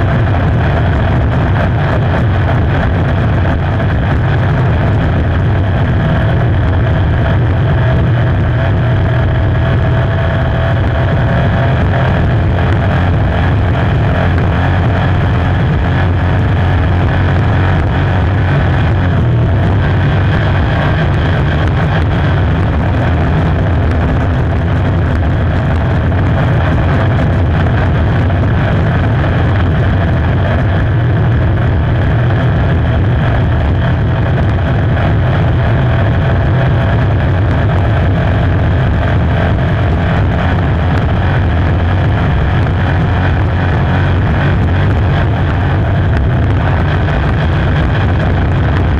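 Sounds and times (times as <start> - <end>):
racing boat engine running: 0.0 - 48.9.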